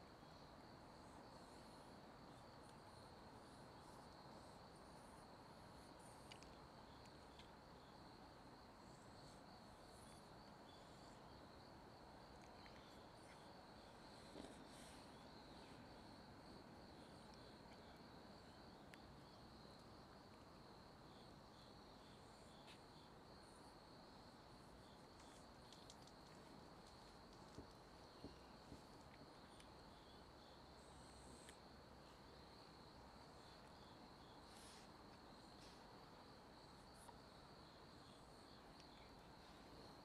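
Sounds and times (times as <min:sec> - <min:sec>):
background hiss: 0:00.0 - 0:40.0.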